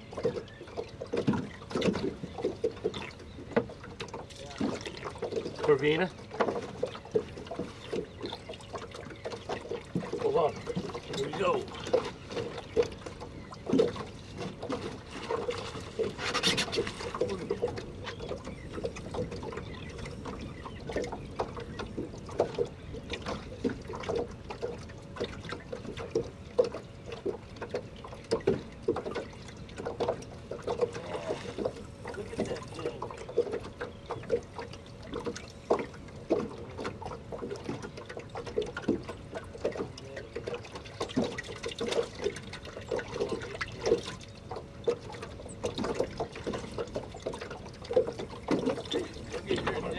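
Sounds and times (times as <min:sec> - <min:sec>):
water lapping against boat hull: 0:00.0 - 0:49.9.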